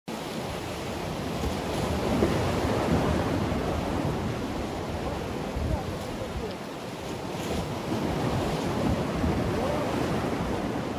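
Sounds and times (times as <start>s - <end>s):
sea surf washing against rocks: 0.1s - 10.9s
wind buffeting microphone: 0.4s - 10.9s.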